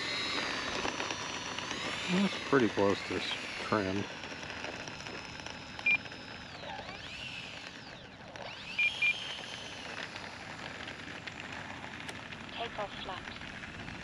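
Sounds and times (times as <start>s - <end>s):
electric ducted fans whining: 0.0s - 14.0s.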